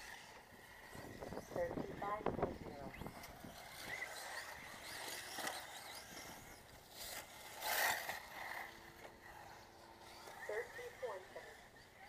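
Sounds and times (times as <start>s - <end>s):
rc car motor whines: 0.0s - 12.0s.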